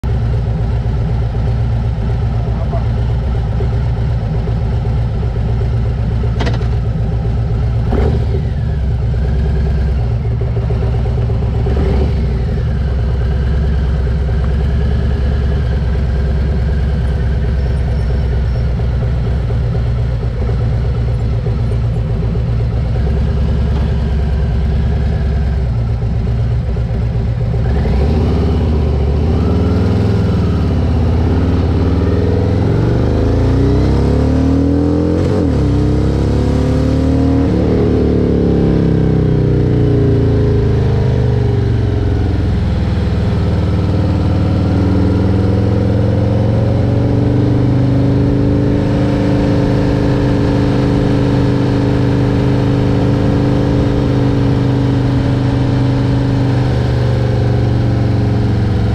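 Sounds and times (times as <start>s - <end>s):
vehicle engine idling and revving: 0.0s - 58.9s.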